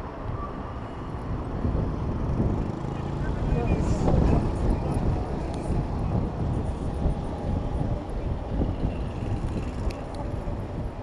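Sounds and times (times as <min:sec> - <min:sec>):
traffic and road noise: 0:00.0 - 0:11.0
wind rumbling on microphone: 0:00.0 - 0:11.0.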